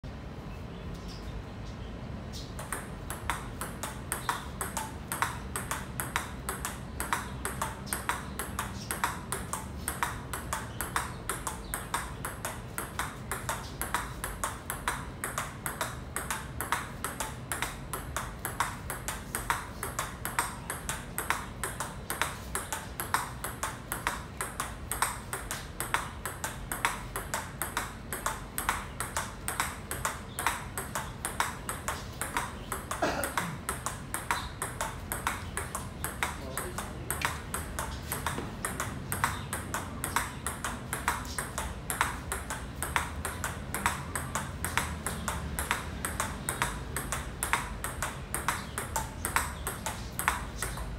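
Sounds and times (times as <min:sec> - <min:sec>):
table tennis ball ticking: 0:02.4 - 0:50.9.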